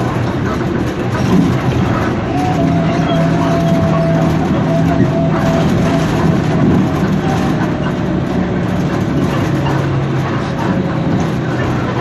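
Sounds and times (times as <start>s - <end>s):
bus engine hum: 0.0s - 12.0s
road and body rumble: 0.0s - 12.0s.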